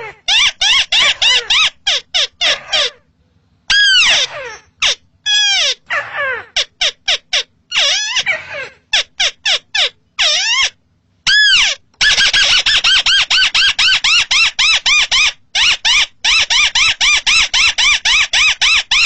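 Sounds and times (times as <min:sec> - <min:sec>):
crake calling: 0:00.0 - 0:19.0.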